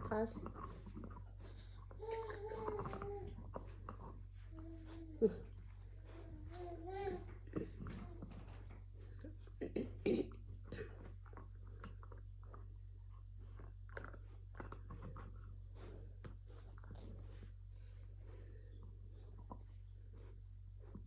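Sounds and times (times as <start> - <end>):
puppy gnawing on chew bone: 0.0 - 6.5, 10.4 - 21.0.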